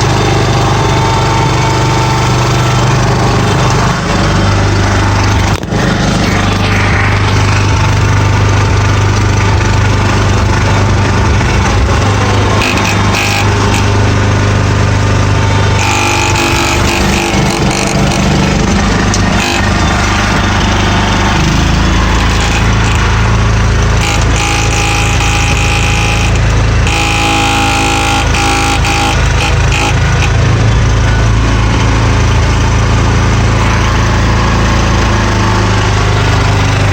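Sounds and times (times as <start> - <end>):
garden tractor engine drone: 0.0 - 36.9
grinding from the drive: 0.0 - 36.9.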